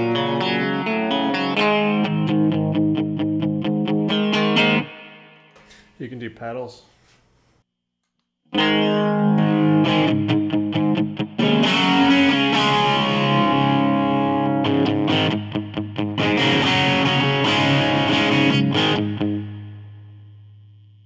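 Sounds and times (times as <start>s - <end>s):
distorted electric guitar: 0.0s - 5.6s, 8.5s - 21.0s.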